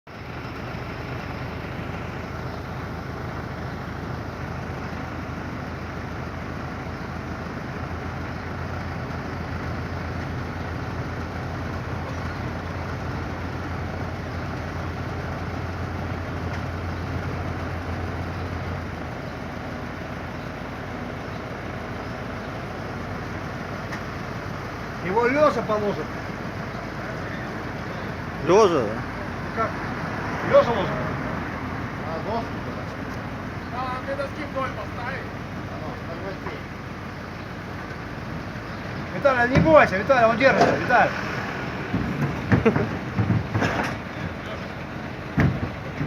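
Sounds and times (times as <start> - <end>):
truck engine running: 0.1 - 46.0.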